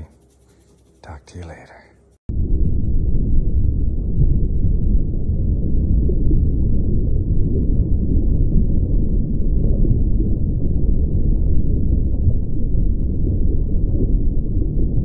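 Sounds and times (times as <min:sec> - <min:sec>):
muffled low rumble: 0:01.0 - 0:15.0.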